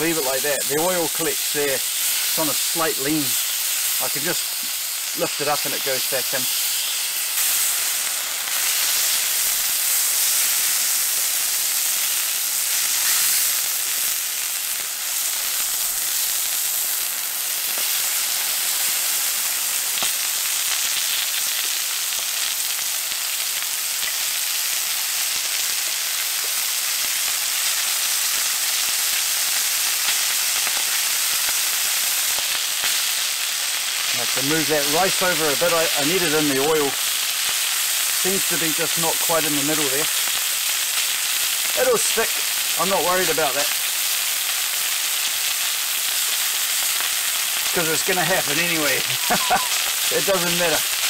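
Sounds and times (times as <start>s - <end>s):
food sizzling on griddle: 0.0s - 51.0s.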